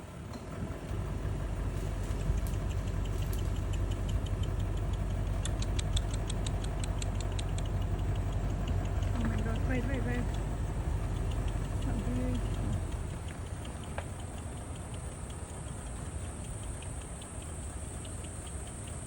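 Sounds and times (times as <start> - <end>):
car engine idling: 0.0 - 19.0
quick even ticks: 1.6 - 19.0.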